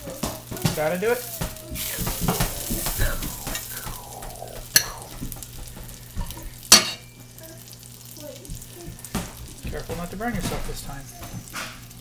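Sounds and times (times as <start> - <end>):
hot dogs sizzling in a pan: 0.0 - 12.0.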